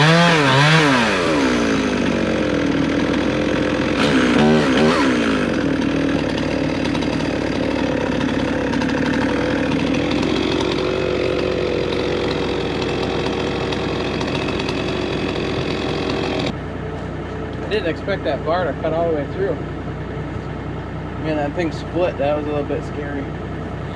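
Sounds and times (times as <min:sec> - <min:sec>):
chainsaw cutting log: 0:00.0 - 0:16.6, 0:17.4 - 0:23.9.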